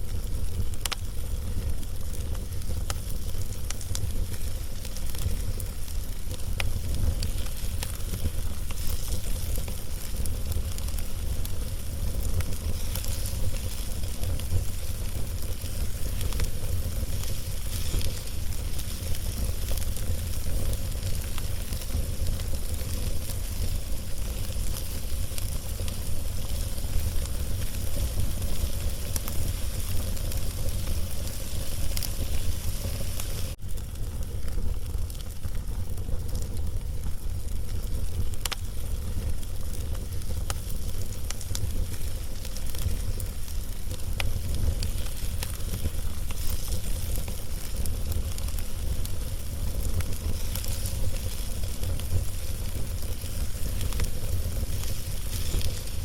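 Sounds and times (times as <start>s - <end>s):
log fire crackling and popping: 0.0s - 56.0s
low fire rumble: 0.0s - 56.0s.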